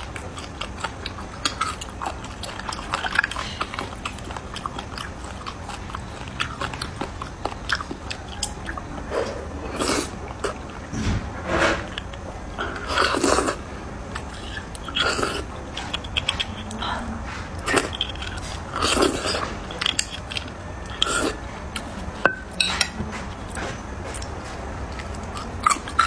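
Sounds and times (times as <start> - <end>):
wet slurping and chewing: 0.0 - 10.9, 11.5 - 22.2, 23.1 - 26.0.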